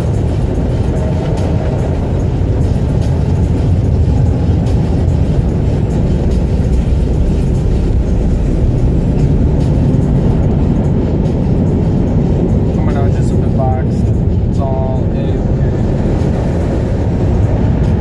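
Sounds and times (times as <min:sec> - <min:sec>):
car wash machinery rumbling: 0:00.0 - 0:18.0.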